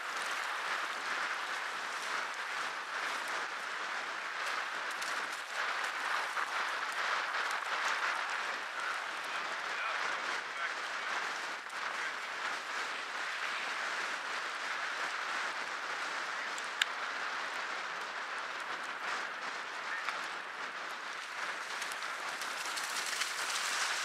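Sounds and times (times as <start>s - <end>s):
waves lapping in shallow water: 0.0s - 24.0s.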